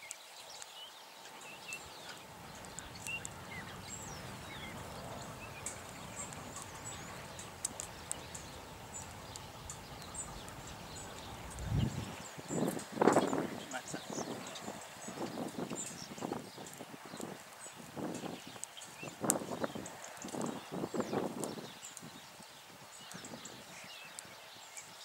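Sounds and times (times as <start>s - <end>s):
faint background hiss: 0.0s - 25.0s
small birds chirping: 0.0s - 25.0s.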